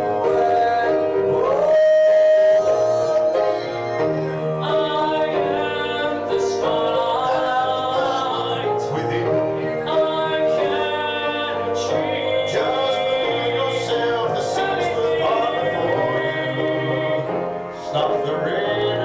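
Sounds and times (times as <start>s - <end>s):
grand piano accompaniment: 0.0s - 19.0s
men singing: 0.0s - 19.0s.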